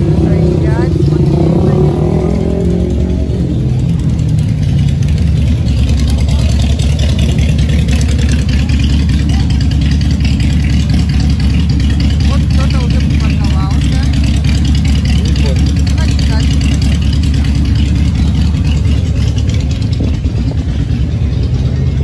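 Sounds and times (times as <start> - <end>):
motorcycle engine low rumble: 0.0 - 22.0
other motorcycles running: 0.0 - 22.0.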